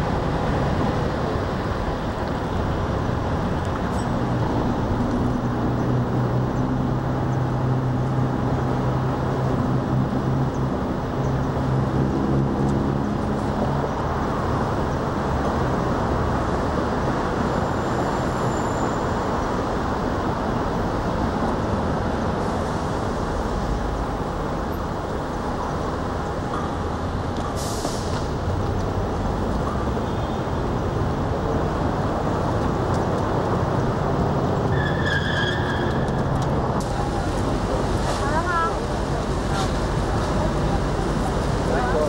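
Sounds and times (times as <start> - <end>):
vehicle road and engine noise: 0.0 - 42.0.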